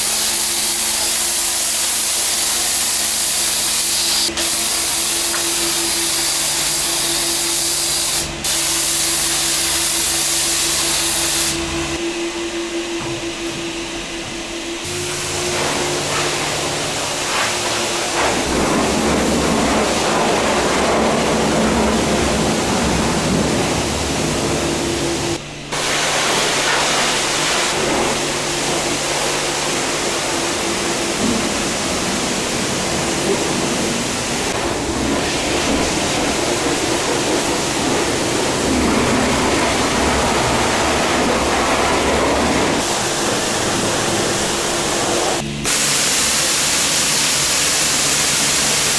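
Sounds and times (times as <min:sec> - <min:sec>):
pump machine hum: 0:00.0 - 0:48.9.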